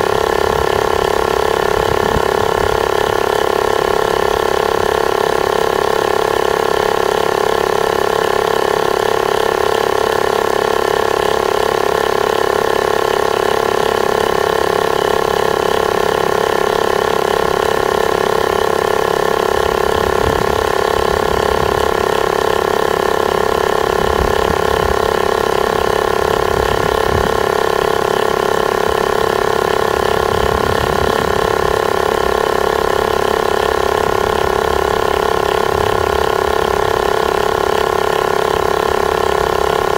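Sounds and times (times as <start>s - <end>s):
tyre inflator compressor running: 0.0s - 39.9s.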